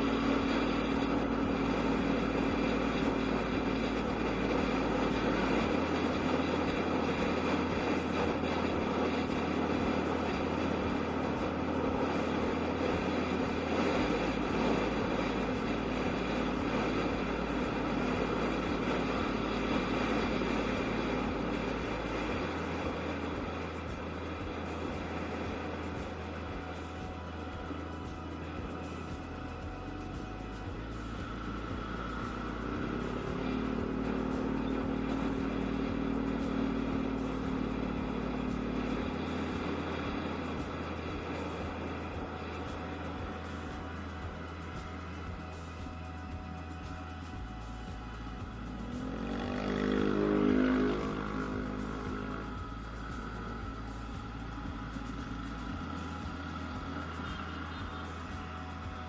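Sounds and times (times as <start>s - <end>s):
scooter engine running: 0.0s - 59.0s
wind and road noise: 0.0s - 59.0s.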